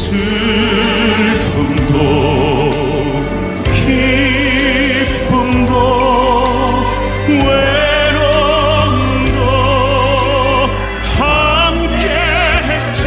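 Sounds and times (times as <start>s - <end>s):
slow song with vibrato melody: 0.0s - 13.0s
steady bass line: 0.0s - 13.0s.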